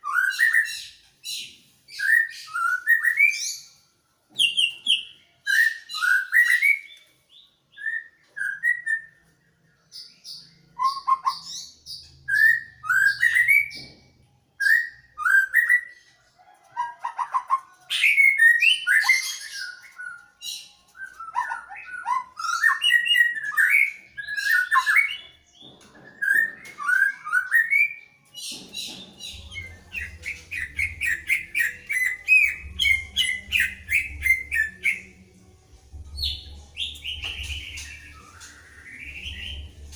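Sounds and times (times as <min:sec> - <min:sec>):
birds singing whistled phrases: 0:00.0 - 0:03.8, 0:04.4 - 0:16.1, 0:16.7 - 0:35.2, 0:36.1 - 0:39.9.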